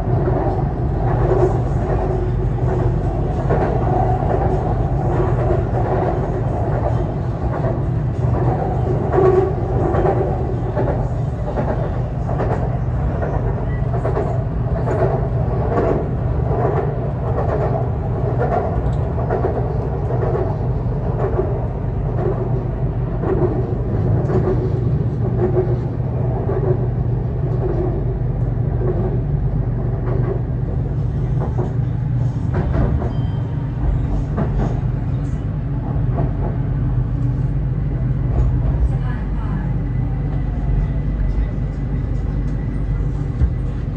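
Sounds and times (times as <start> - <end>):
electric train rumbling: 0.0 - 43.9.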